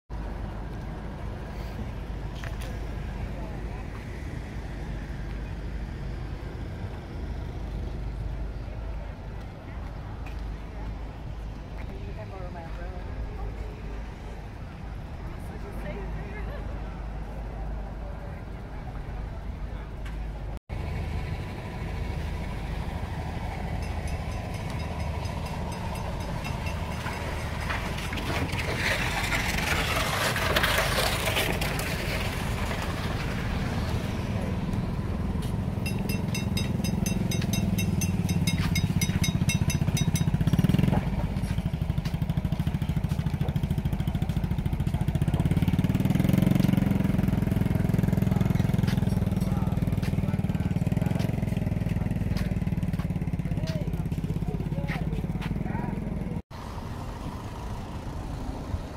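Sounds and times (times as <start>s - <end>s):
motorcycle engines: 0.2s - 58.9s.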